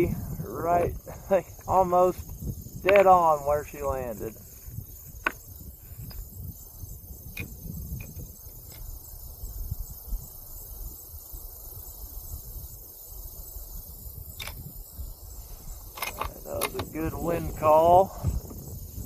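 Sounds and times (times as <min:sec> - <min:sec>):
insects trilling: 0:00.0 - 0:19.0
wind buffeting microphone: 0:00.0 - 0:19.0.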